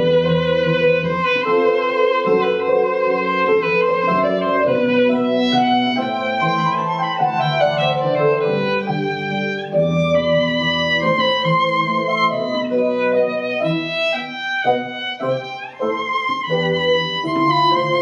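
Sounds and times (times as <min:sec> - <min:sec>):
lower accompanying instrument: 0:00.0 - 0:18.0
violin playing bowed melody: 0:00.0 - 0:18.0.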